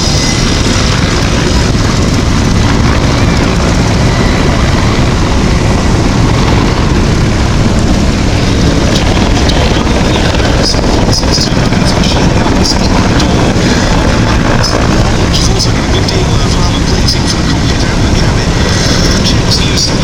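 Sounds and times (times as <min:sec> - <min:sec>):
helicopter rotor and engines: 0:00.0 - 0:20.0.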